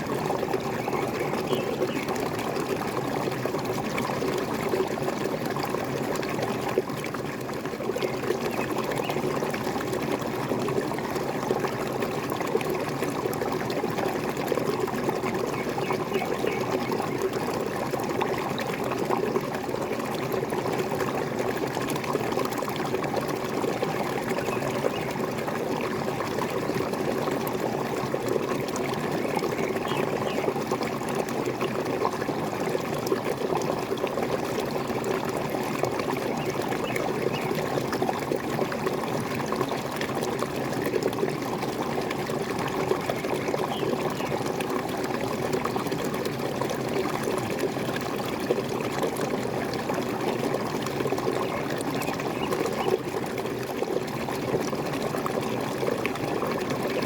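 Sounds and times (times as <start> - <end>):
water pouring and splashing: 0.0 - 57.0.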